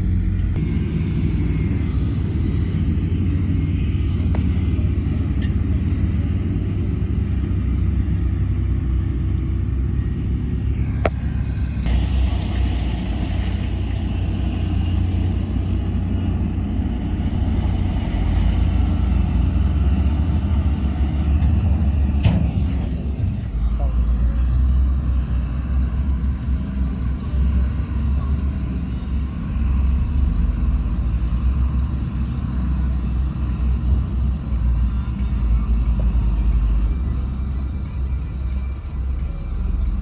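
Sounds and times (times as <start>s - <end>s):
diesel engines droning: 0.0s - 40.0s.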